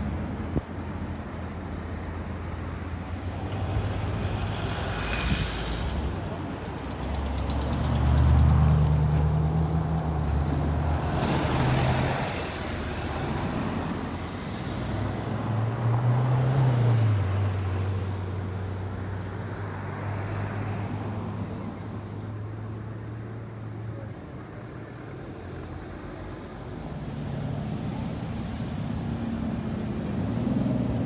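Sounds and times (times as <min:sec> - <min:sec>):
city traffic: 0:00.0 - 0:31.0.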